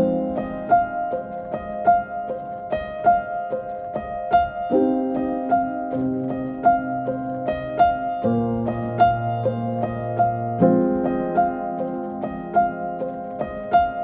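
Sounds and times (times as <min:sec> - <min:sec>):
piano-like keyboard pattern: 0:00.0 - 0:14.0.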